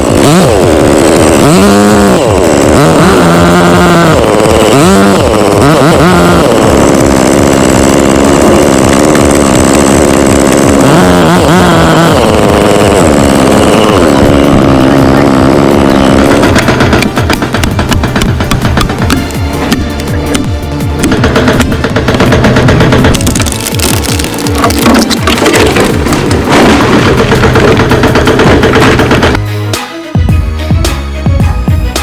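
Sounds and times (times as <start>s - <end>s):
chainsaw engine revving: 0.0s - 29.4s.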